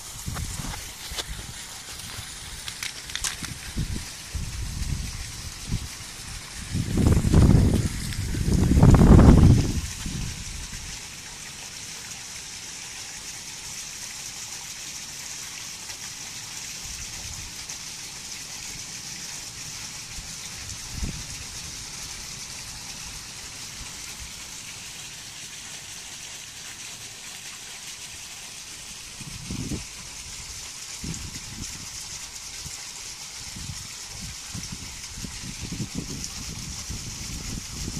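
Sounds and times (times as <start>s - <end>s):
steady hiss: 0.0s - 37.9s.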